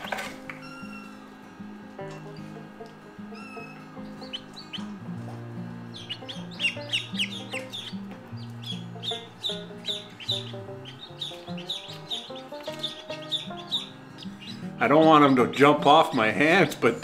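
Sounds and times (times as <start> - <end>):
chicks peeping: 0.0 - 1.4, 2.1 - 17.0
background music low notes: 0.0 - 17.0.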